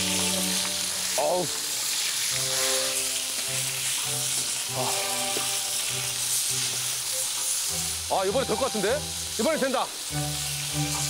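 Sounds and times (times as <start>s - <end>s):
background music of held notes: 0.0s - 11.0s
steak sizzling in a pan: 0.0s - 11.0s.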